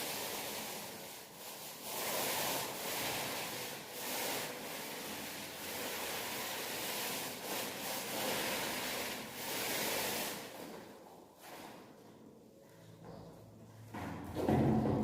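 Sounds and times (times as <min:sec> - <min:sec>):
paint roller rolling on wall: 0:00.0 - 0:15.0.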